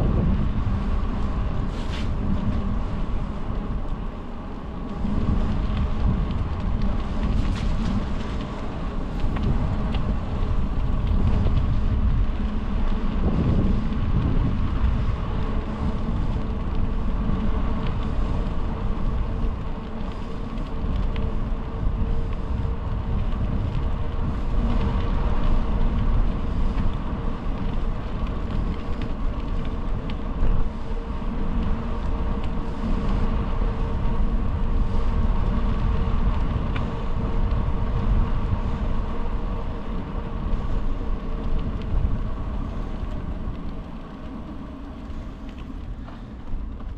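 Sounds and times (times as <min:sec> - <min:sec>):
bicycle tyre noise: 0:00.0 - 0:46.9
faint steady hum: 0:00.0 - 0:46.9
wind rumbling on microphone: 0:00.0 - 0:46.9.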